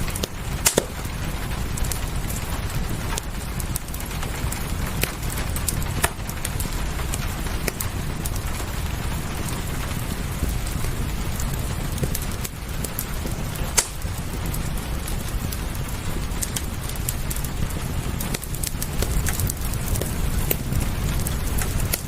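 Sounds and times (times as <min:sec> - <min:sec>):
low rumble: 0:00.0 - 0:22.0
rain hissing: 0:00.0 - 0:22.0
wood fire crackling: 0:00.0 - 0:22.0.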